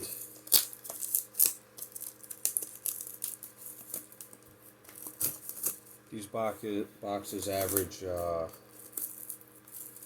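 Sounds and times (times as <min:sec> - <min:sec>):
plastic wrap crinkling: 0:00.0 - 0:06.2, 0:07.3 - 0:10.0.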